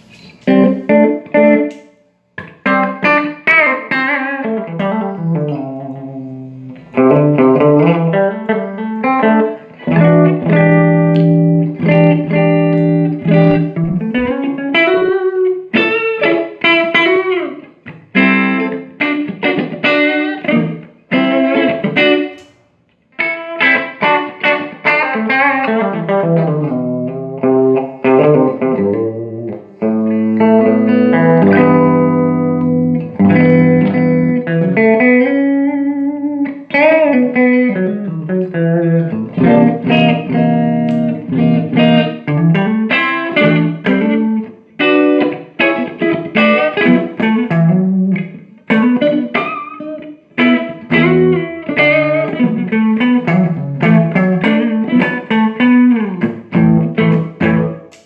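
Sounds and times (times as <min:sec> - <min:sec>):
electric guitar: 0:00.0 - 0:58.0.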